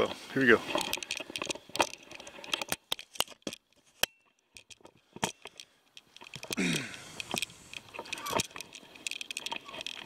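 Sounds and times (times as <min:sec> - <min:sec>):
sharp clicks and light rattles: 0:00.0 - 0:10.0.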